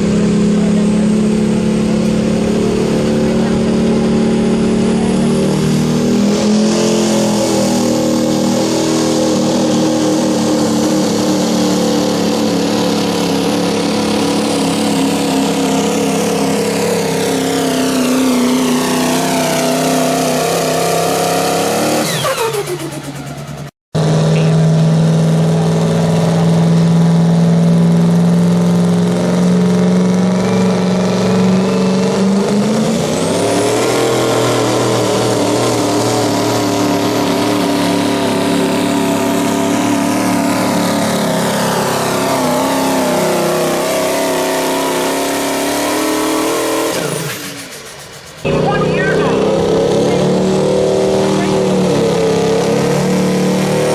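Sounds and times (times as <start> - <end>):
diesel truck engine at high revs: 0.0 - 53.9
second diesel engine at high revs: 0.0 - 53.9.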